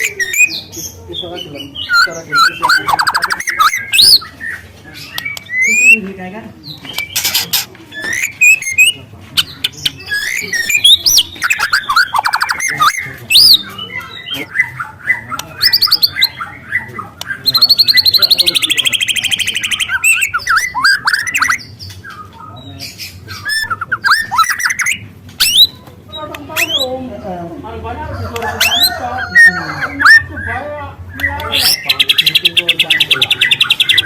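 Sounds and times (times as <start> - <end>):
bird trill: 0.0 - 6.1, 6.9 - 27.0, 28.4 - 34.0
songbird singing: 0.0 - 34.0.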